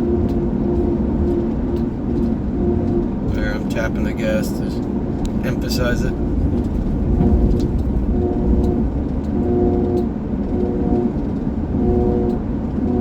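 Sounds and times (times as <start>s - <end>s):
drivetrain whine: 0.0s - 13.0s
road rumble inside car: 0.0s - 13.0s.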